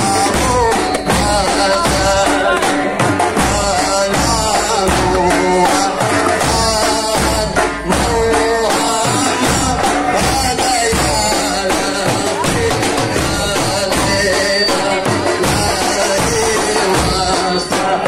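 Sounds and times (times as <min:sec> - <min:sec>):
frame drums playing: 0:00.0 - 0:18.0
men singing: 0:00.0 - 0:18.0.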